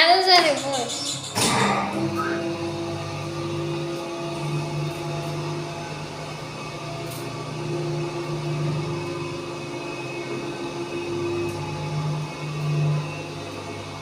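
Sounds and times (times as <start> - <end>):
platform lift drive humming: 0.0 - 14.0.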